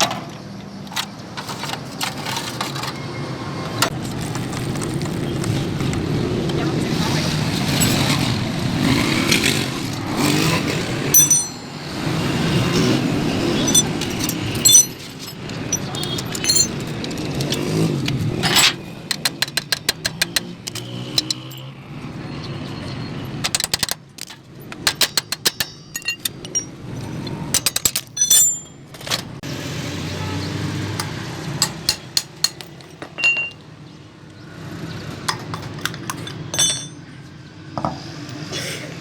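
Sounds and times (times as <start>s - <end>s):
metal tools clinking on metal: 0.0s - 5.5s, 7.6s - 8.4s, 10.3s - 29.4s, 30.9s - 33.9s, 35.1s - 38.4s.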